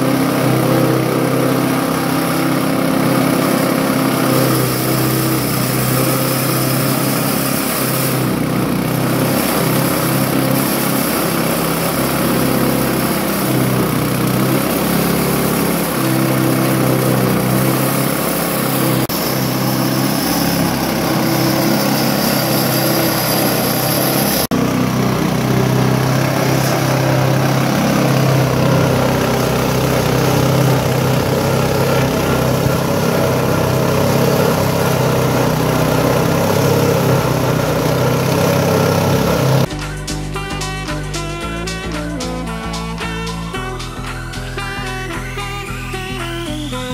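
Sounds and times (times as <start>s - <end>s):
chopping machine cutting stalks: 0.0s - 39.7s
small petrol engine running: 0.0s - 46.9s.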